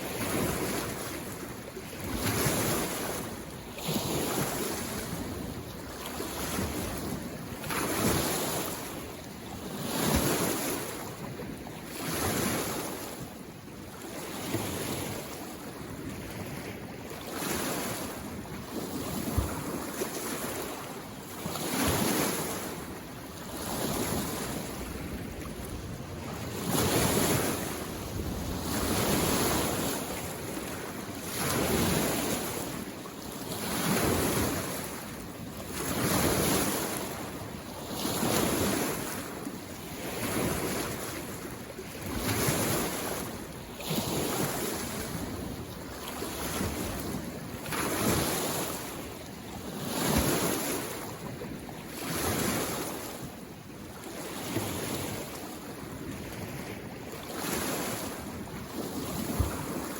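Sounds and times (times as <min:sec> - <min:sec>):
small waves washing against shore: 0:00.0 - 0:59.9.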